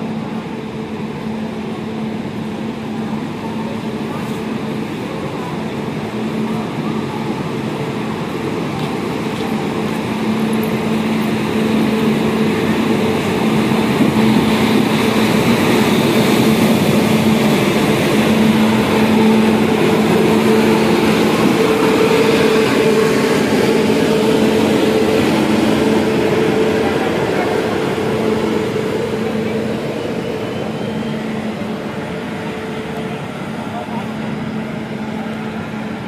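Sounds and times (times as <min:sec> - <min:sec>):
electric locomotive humming: 0:00.0 - 0:36.0.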